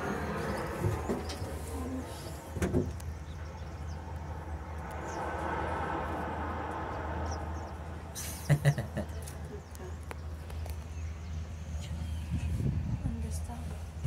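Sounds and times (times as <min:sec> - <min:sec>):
cable car hum and rumble: 0:00.0 - 0:14.0.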